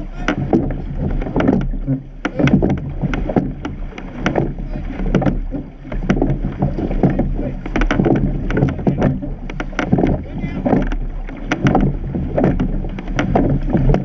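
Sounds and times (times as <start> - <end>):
oars knocking in rowlocks: 0.0 - 14.0
water splashing along boat hull: 0.0 - 14.0.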